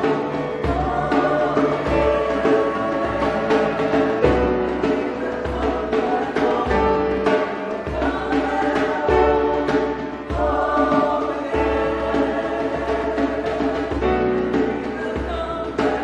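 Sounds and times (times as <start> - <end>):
choir singing a hymn: 0.0 - 16.0
instrumental accompaniment: 0.0 - 16.0.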